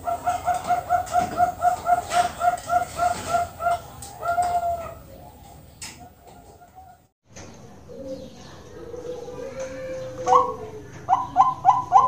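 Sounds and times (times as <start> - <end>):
dove cooing: 0.0 - 7.0, 7.9 - 12.0.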